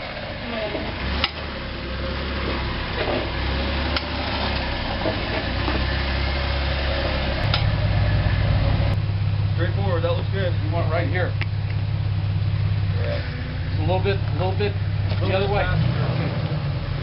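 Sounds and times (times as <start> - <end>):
off-road vehicle engine at low revs: 0.0 - 17.0.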